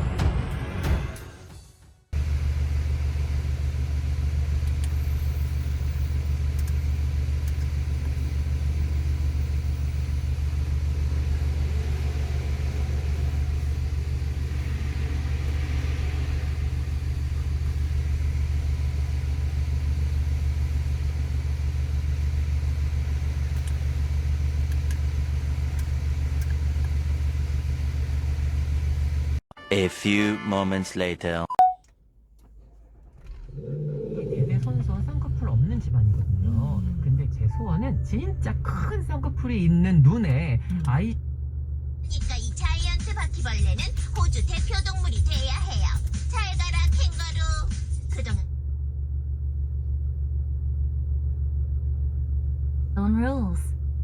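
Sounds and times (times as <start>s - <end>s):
car engine idling: 2.2s - 29.4s, 31.8s - 54.0s.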